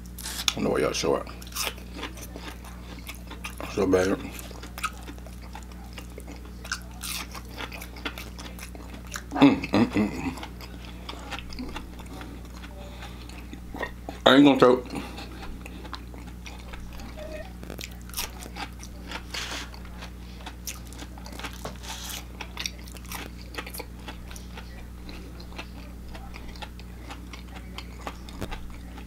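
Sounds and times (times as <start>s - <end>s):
person chewing crispy food: 0.0s - 29.0s
steady low hum: 0.0s - 29.0s.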